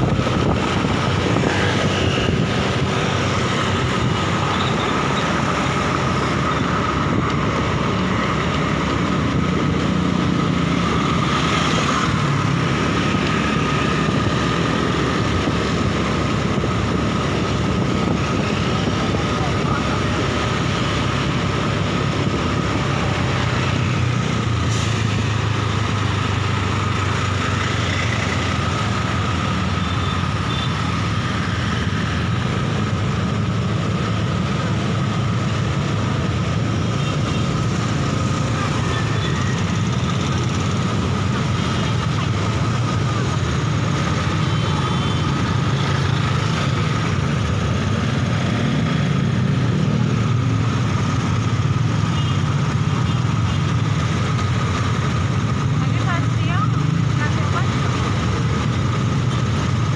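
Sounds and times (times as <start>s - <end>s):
road noise: 0.0s - 59.9s
rumble of surrounding traffic: 0.0s - 59.9s.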